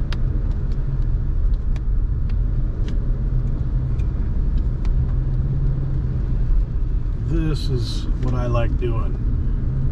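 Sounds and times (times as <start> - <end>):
car interior road rumble: 0.0 - 9.9.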